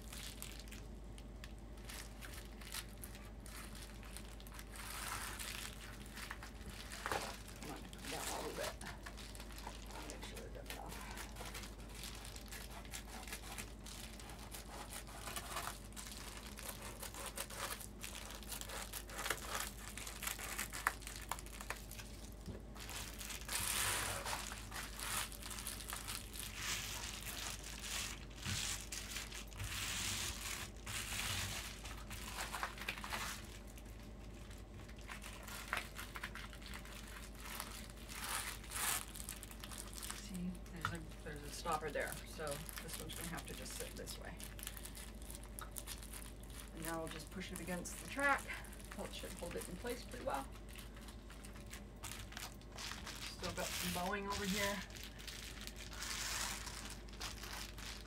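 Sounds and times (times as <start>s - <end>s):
foil insulation crinkling: 0.0s - 58.0s.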